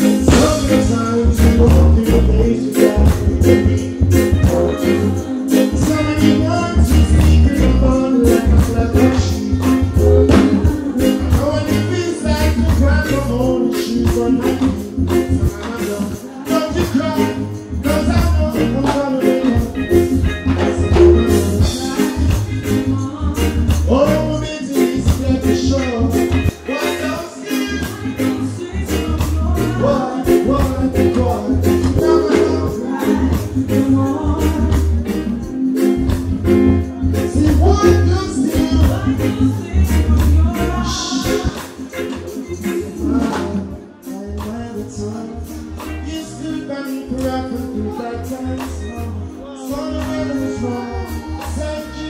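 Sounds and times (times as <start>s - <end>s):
deep repeating bass line: 0.0s - 51.6s
live reggae band: 0.0s - 52.0s
man singing: 0.0s - 52.0s.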